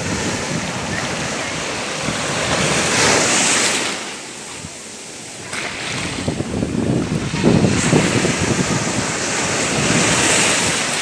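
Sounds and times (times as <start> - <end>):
ocean waves breaking on shore: 0.0 - 11.0.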